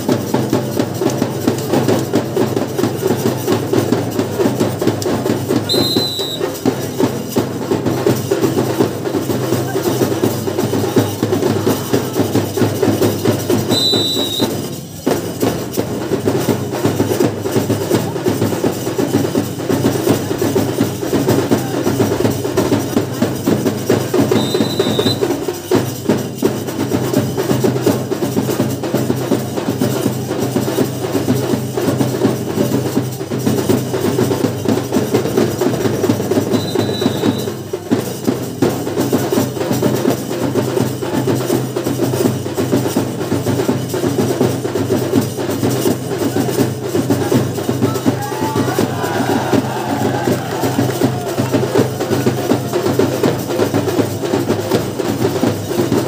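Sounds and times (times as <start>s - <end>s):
rhythmic drumming: 0.0s - 56.0s
sharp clacking percussion: 0.0s - 56.0s.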